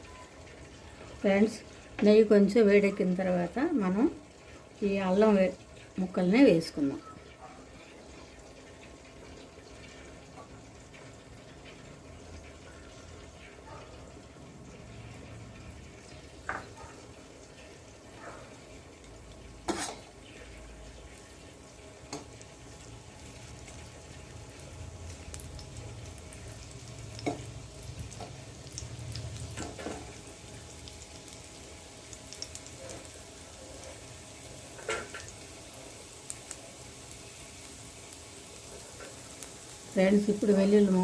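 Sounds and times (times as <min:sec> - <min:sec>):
ginger sizzling in hot fat: 0:00.0 - 0:41.0.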